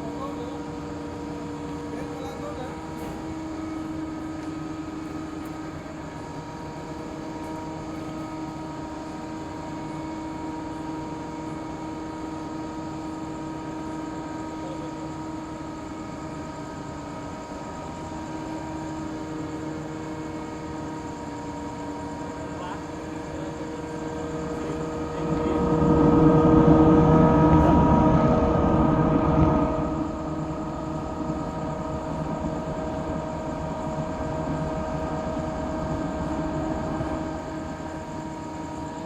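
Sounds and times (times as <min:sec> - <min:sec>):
crane engine drone: 0:00.0 - 0:39.0
steady whine: 0:00.0 - 0:39.0.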